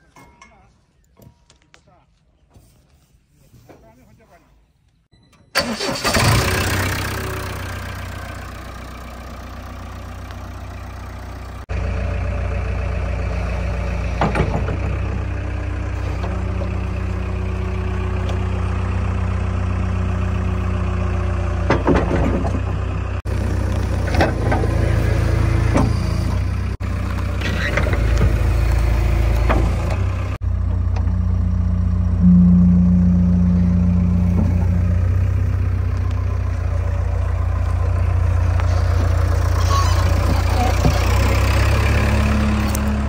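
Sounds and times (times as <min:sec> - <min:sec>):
diesel engine running: 0:05.6 - 0:43.0.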